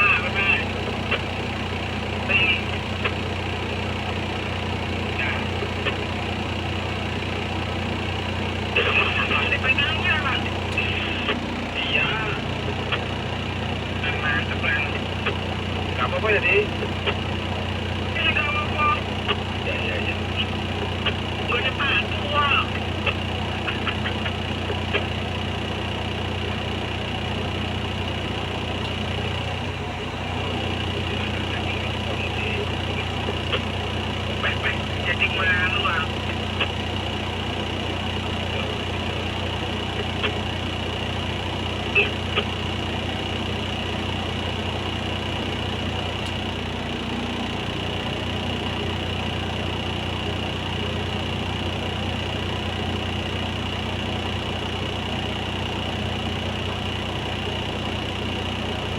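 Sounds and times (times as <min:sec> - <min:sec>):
diesel engine humming: 0:00.0 - 0:58.9.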